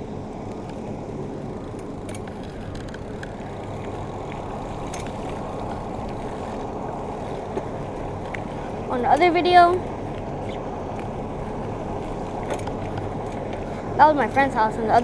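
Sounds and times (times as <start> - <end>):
bike tyres rolling on wet pavement: 0.0 - 15.0.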